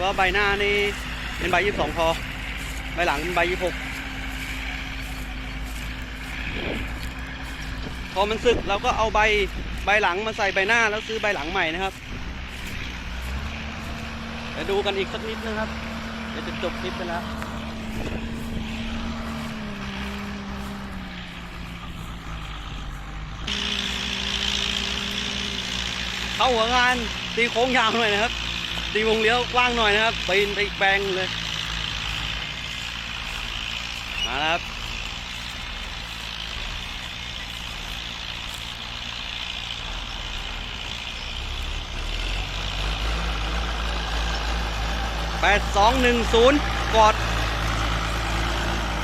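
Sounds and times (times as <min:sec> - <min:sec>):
tractor engine running under load: 0:00.0 - 0:49.0.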